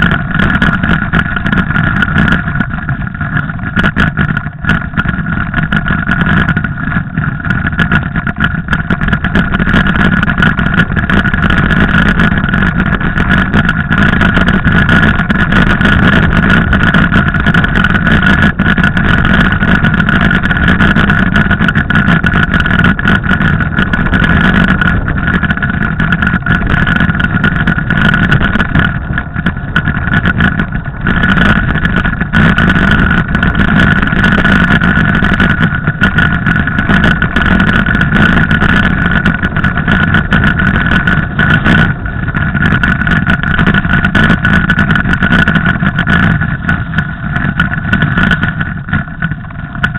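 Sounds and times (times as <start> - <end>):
constant high hum: 0.0 - 49.9
wind rushing on microphone: 0.0 - 49.9.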